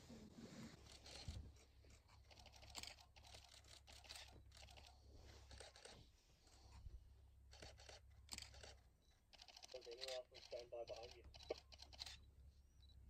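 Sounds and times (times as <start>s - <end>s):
faint crackles and rustles: 0.0s - 12.2s.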